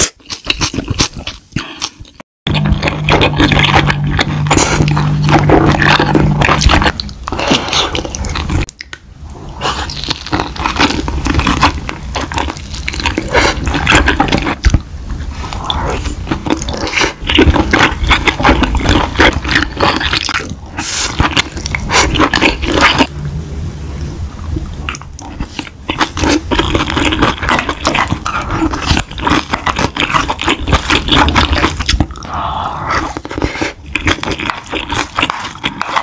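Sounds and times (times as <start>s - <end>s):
wet chewing and biting: 0.0s - 9.0s, 9.6s - 23.1s, 24.8s - 36.0s.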